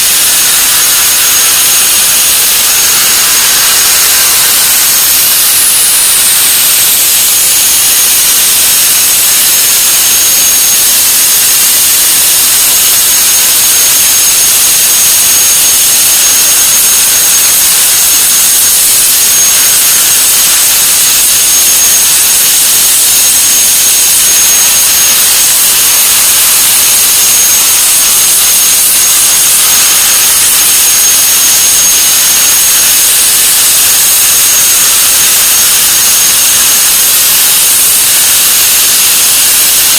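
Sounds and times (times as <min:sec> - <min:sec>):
high-pitched whine: 0:00.0 - 0:39.9
plasma torch hissing: 0:00.0 - 0:39.9.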